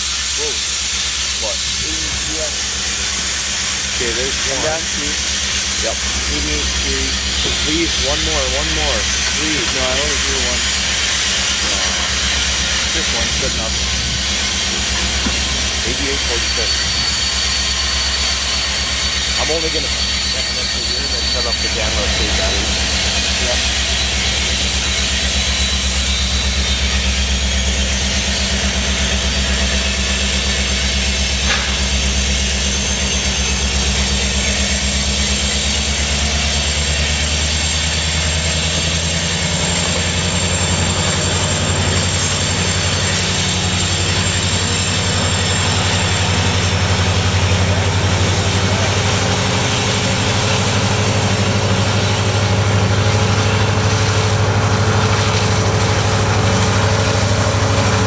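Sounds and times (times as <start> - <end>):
diesel locomotive engine drone: 0.0 - 58.0.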